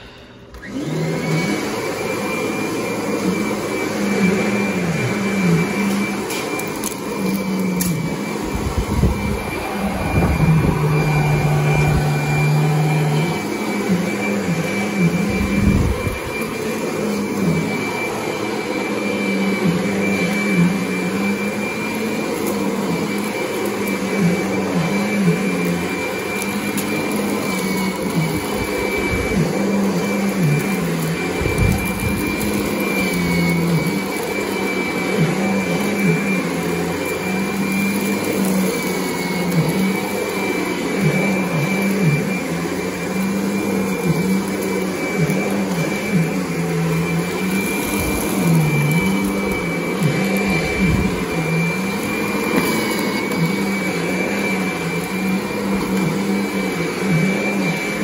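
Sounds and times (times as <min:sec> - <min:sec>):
upright vacuum running on carpet: 0:00.0 - 0:58.0.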